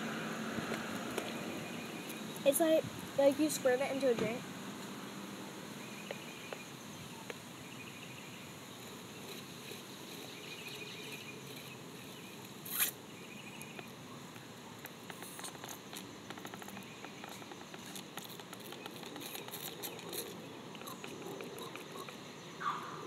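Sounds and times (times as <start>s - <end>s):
rustle: 0.0s - 23.0s.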